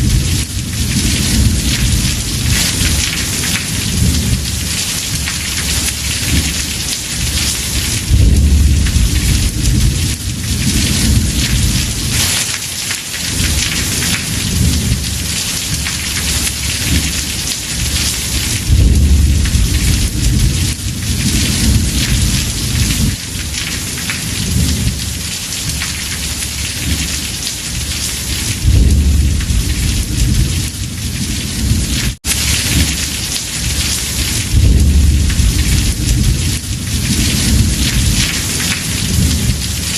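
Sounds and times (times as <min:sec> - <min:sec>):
thunder rumbling: 0:00.0 - 0:12.6, 0:13.2 - 0:39.9
heavy rain on a roof: 0:00.0 - 0:39.9.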